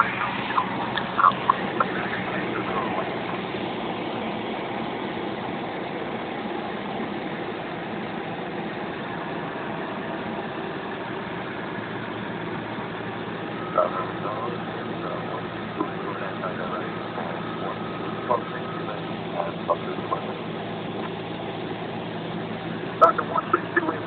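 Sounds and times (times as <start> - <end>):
airplane engine and propeller: 0.0 - 24.0.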